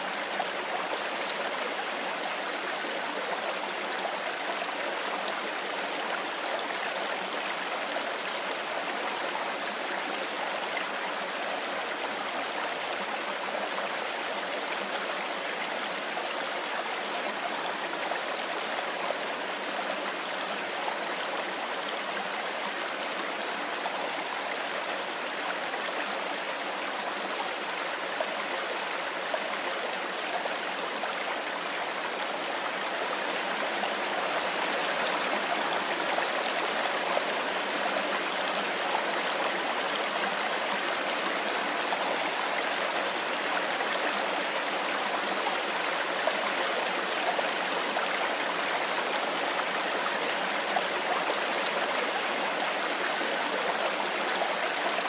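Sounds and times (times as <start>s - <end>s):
river flowing over stones: 0.0s - 55.0s.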